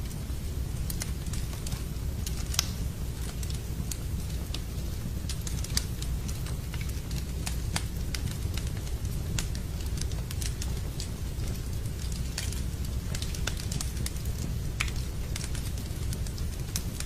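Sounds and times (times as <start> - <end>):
rain: 0.0 - 17.0
wood fire crackling and popping: 0.0 - 17.0.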